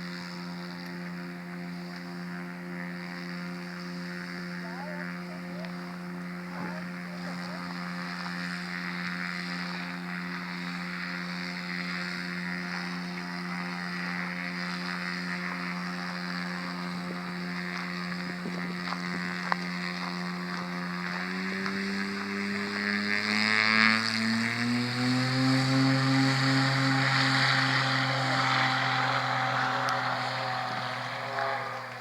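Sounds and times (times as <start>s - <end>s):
propeller aircraft engine droning: 0.0s - 32.0s.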